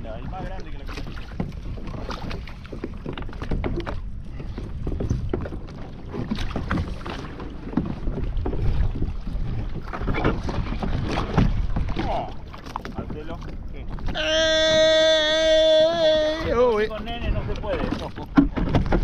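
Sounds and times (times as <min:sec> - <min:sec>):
water lapping against a kayak: 0:00.0 - 0:19.0
wind on the microphone: 0:00.0 - 0:19.0.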